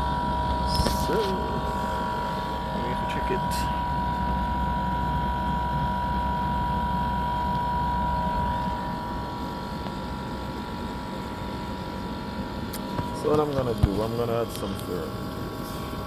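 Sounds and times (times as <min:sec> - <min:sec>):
air conditioner low hum: 0:00.0 - 0:16.0
high whine: 0:00.0 - 0:16.0.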